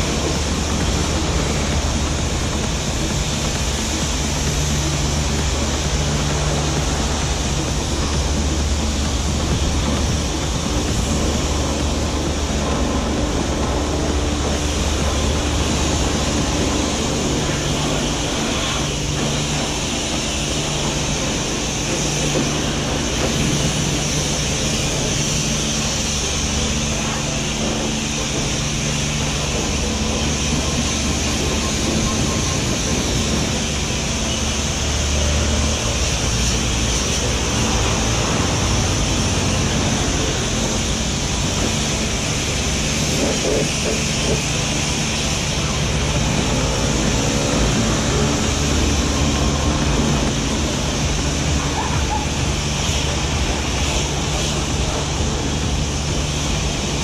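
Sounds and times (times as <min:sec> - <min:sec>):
pressure washer spraying water: 0:00.0 - 0:57.0
pump humming: 0:00.0 - 0:57.0.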